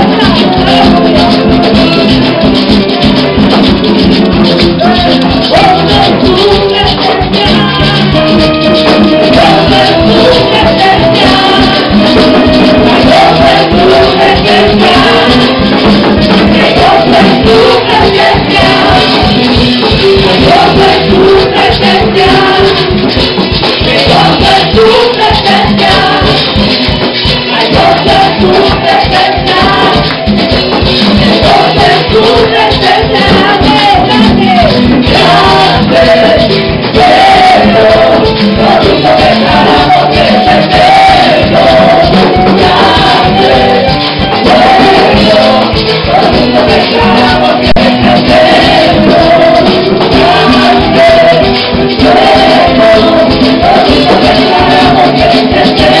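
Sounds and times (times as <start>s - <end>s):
congas: 0.0s - 56.0s
drums: 0.0s - 56.0s
electric guitars: 0.0s - 56.0s
women singing into microphones: 0.0s - 56.0s
worship band playing: 0.0s - 56.0s.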